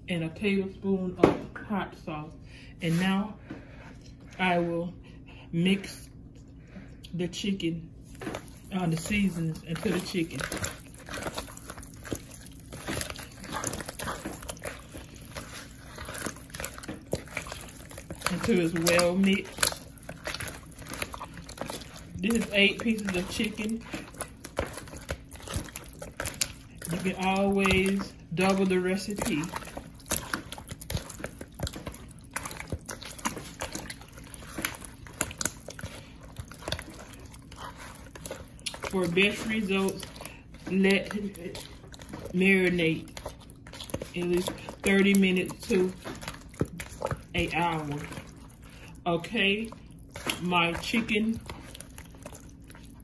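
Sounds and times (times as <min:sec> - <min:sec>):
wet squelches of raw chicken: 0:07.9 - 0:53.0.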